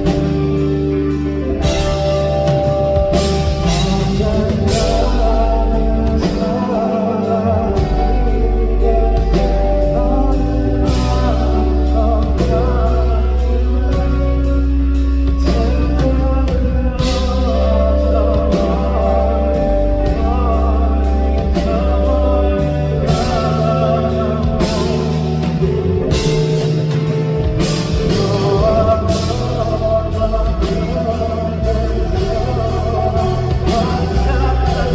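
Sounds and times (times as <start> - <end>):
live pop-rock band: 0.0 - 34.9
man singing lead vocal: 0.0 - 34.9.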